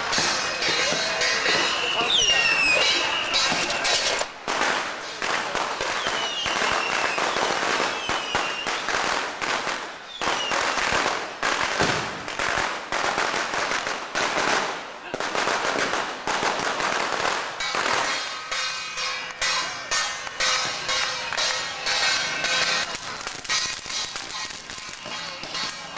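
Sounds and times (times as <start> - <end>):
firecrackers crackling: 0.0 - 25.9.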